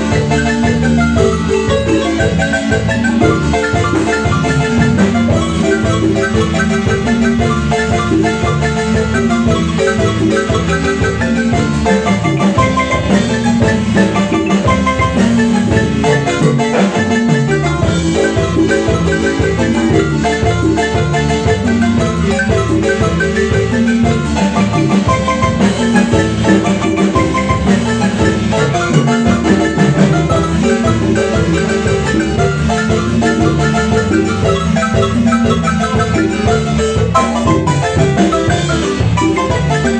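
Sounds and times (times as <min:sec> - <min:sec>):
marimba playing quick notes: 0:00.0 - 0:39.9
steady bass line: 0:00.0 - 0:39.9.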